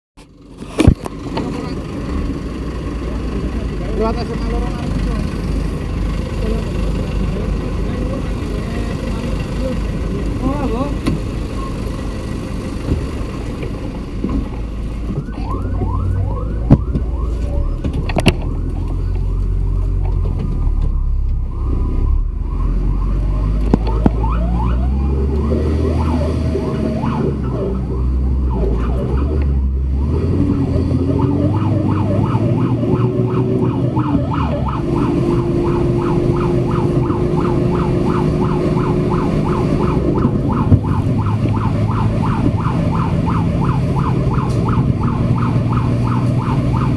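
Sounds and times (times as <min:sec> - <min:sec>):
truck engine: 0:00.2 - 0:46.9
fire truck siren yelping: 0:01.5 - 0:46.9.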